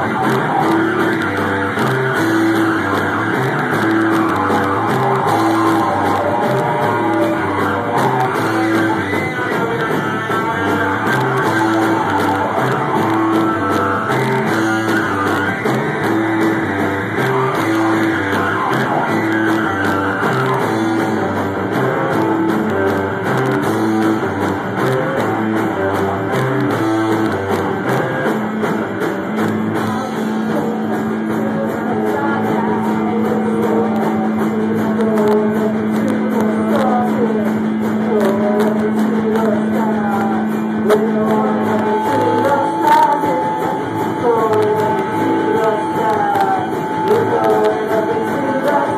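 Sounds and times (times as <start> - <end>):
drum kit with cymbals: 0.0 - 48.9
electric guitar: 0.0 - 48.9.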